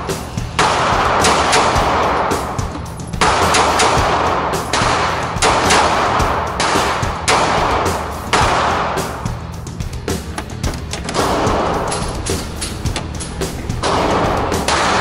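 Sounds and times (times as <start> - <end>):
pistol shots ringing: 0.6 - 9.3, 11.0 - 15.0.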